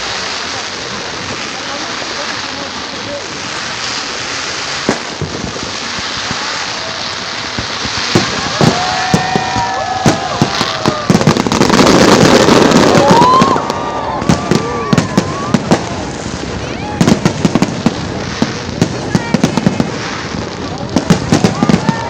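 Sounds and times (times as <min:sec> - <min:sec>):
fireworks bangs: 0:00.0 - 0:22.0
fireworks crackling: 0:00.0 - 0:22.0
whistling fireworks: 0:00.0 - 0:22.0.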